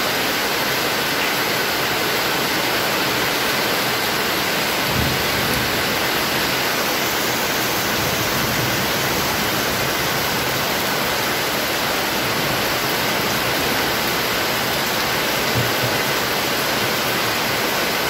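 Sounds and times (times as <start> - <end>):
heavy rain on concrete: 0.0 - 18.0
rain into water-filled bin: 0.0 - 18.0.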